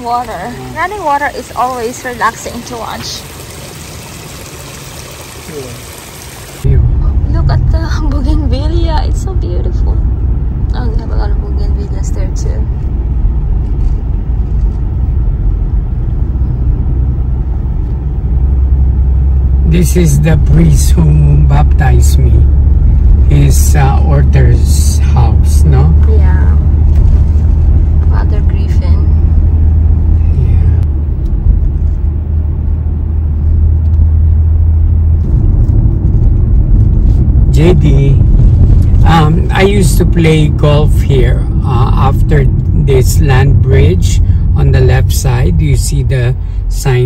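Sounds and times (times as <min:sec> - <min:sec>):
car road and engine noise: 0:00.0 - 0:47.0.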